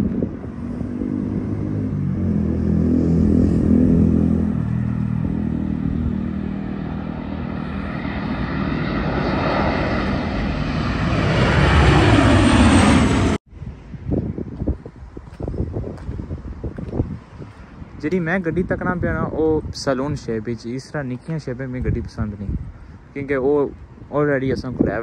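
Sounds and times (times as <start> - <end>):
aeroplane engines flying overhead: 0.0 - 25.0.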